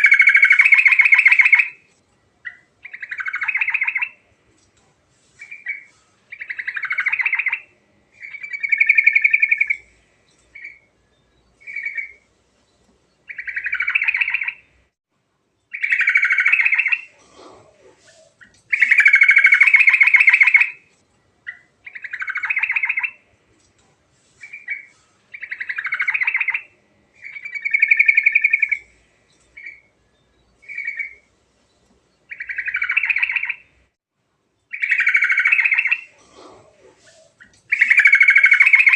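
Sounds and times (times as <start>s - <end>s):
bird singing trilled phrases: 0.0s - 1.8s, 2.4s - 4.2s, 5.4s - 14.8s, 15.7s - 17.1s, 18.1s - 20.8s, 21.4s - 23.3s, 24.4s - 33.8s, 34.6s - 36.1s, 37.0s - 38.9s.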